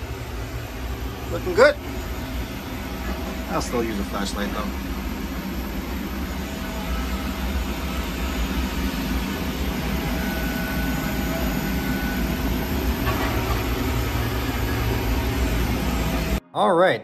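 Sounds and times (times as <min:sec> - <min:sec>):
deep hum: 0:00.0 - 0:16.4
jet turbine rumble and hiss: 0:00.0 - 0:16.4.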